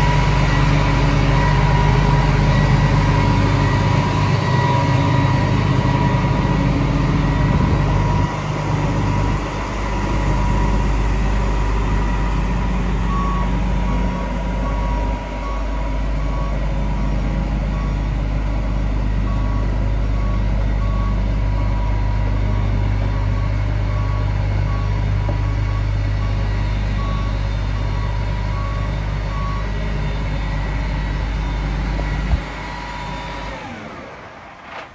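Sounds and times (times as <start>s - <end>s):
alarm beeping: 0.0s - 33.8s
diesel engine running: 0.0s - 34.9s.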